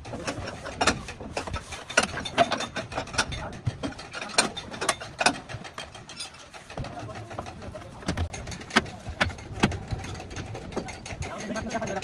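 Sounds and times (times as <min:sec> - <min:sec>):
hand tool clicks and knocks: 0:00.0 - 0:12.0.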